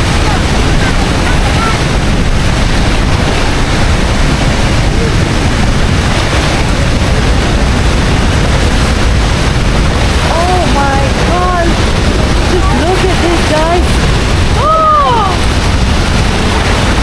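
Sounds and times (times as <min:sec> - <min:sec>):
waterfall roaring: 0:00.0 - 0:17.0
wind buffeting microphone: 0:00.0 - 0:17.0.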